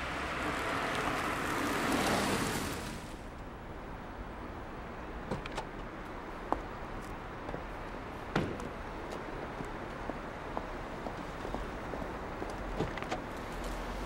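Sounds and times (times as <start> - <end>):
car tyre and engine noise: 0.0 - 14.0.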